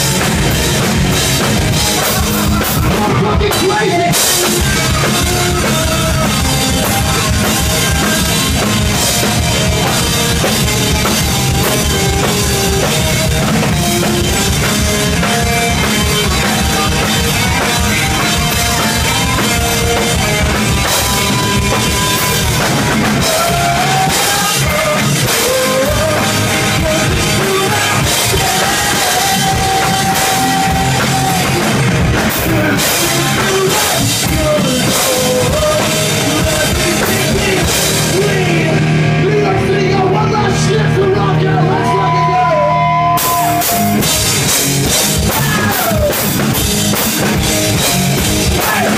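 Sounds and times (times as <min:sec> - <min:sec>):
drum kit beat: 0:00.0 - 0:40.4, 0:43.0 - 0:48.9
rock band playing live: 0:00.0 - 0:48.9.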